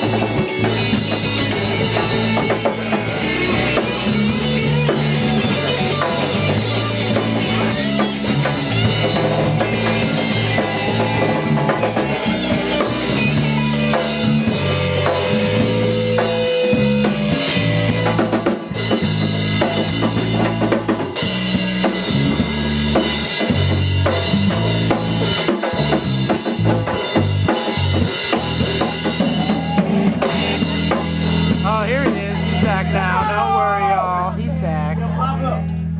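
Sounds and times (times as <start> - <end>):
loud drum kit: 0.0 - 34.4
live rock band playing: 0.0 - 35.1.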